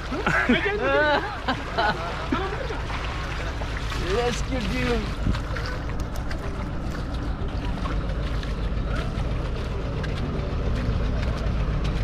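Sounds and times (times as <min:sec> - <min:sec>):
engine running: 0:00.0 - 0:12.0
water sloshing and splashing: 0:00.0 - 0:12.0.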